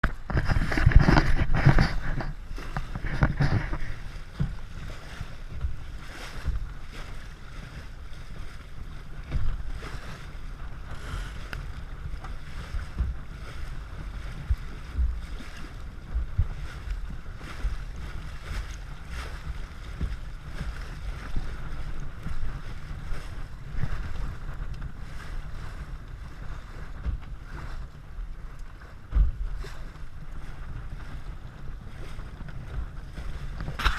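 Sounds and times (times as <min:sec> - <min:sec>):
water rushing past hull: 0:00.0 - 0:33.9
wind buffeting microphone: 0:00.0 - 0:33.9.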